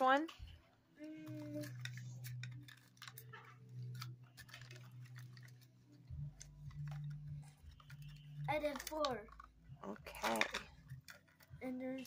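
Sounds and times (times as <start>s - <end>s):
plastic wrapping crinkling: 0.4s - 12.0s.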